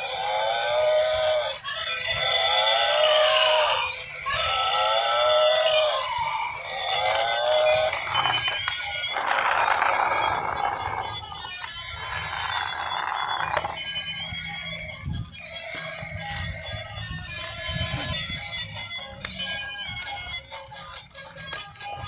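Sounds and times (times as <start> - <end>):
rough rasping toy sound: 0.0 - 21.7
toy beeping tune: 0.0 - 22.0.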